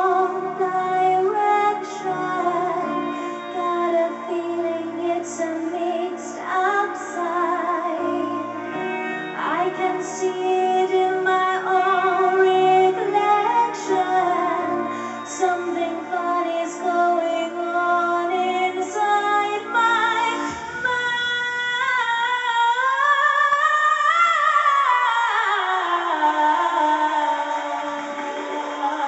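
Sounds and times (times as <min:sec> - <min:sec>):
musical accompaniment: 0:00.0 - 0:29.0
woman singing sustained notes: 0:00.0 - 0:29.0.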